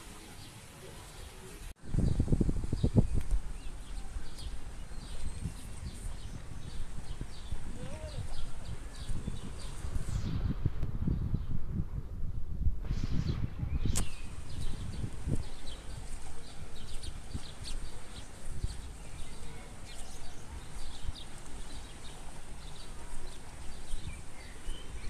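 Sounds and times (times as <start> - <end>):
small birds chirping: 0.0 - 10.4, 13.2 - 25.0
wind rumble on microphone: 1.7 - 25.0.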